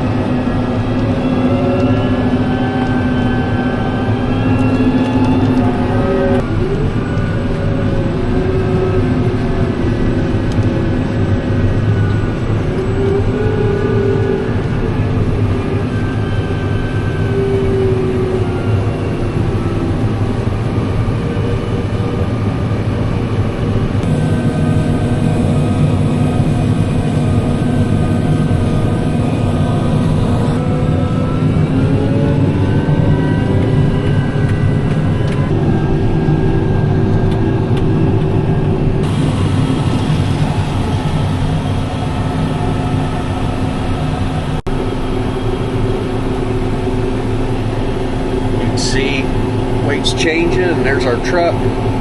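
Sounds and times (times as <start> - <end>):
heavy machinery engine running: 0.0 - 52.0
high whine: 0.0 - 52.0.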